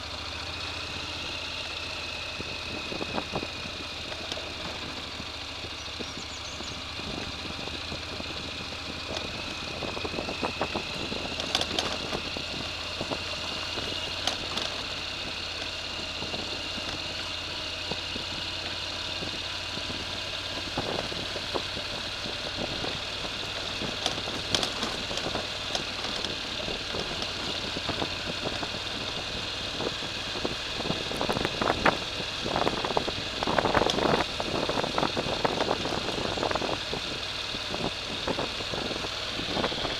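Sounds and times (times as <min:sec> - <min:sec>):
small vehicle motor whining: 0:00.0 - 0:39.9.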